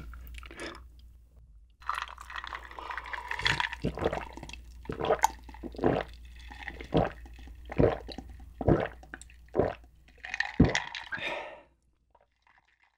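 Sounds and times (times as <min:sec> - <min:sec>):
person gulping a drink: 0:00.0 - 0:00.9, 0:01.8 - 0:12.9.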